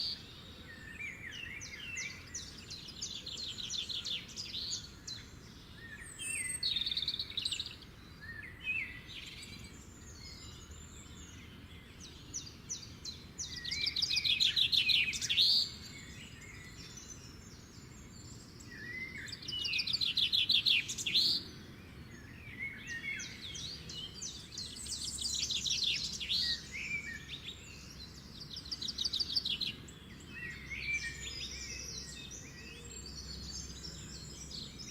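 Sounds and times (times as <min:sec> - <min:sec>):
faint outdoor background noise: 0:00.0 - 0:34.9
songbirds trilling and chirping: 0:00.0 - 0:34.9.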